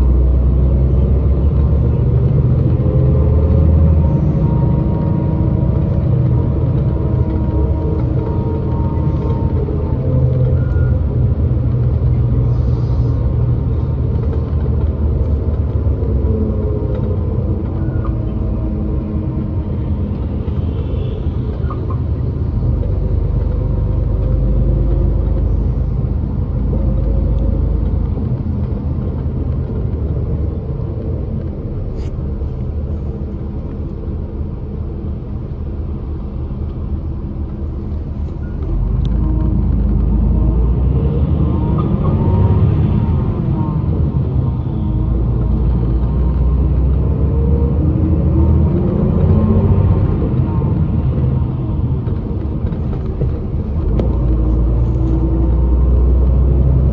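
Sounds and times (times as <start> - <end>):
bus engine and road rumble: 0.0 - 56.9.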